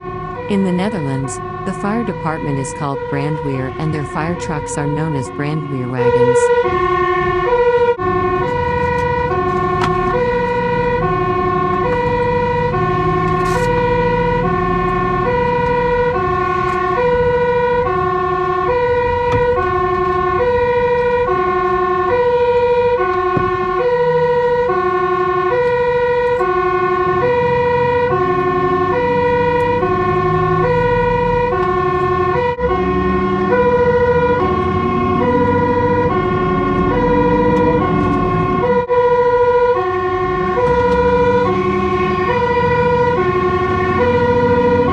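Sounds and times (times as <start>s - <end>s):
fire engine two-tone siren: 0.0s - 44.9s
road noise: 0.0s - 44.9s
truck engine rumble: 0.0s - 44.9s.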